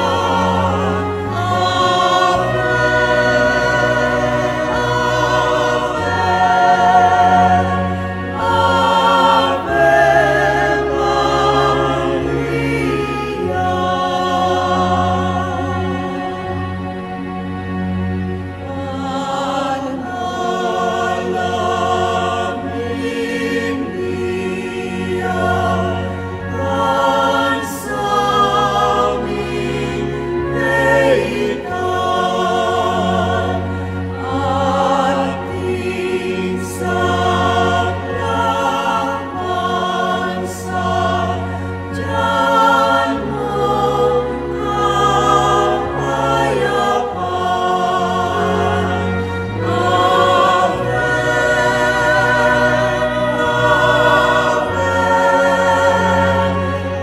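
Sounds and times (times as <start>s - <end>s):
choir singing a hymn: 0.0s - 57.0s
sustained low accompanying notes: 0.0s - 57.0s.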